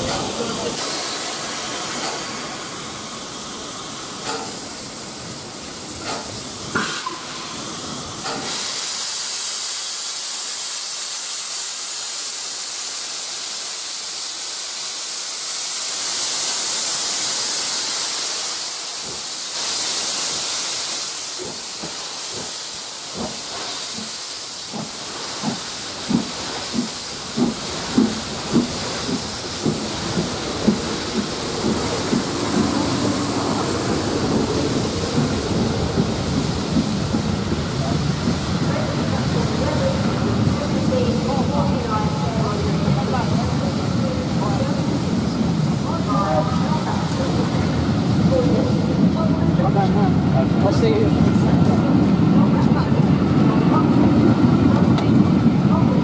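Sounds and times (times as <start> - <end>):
steam hissing: 0.0 - 56.0.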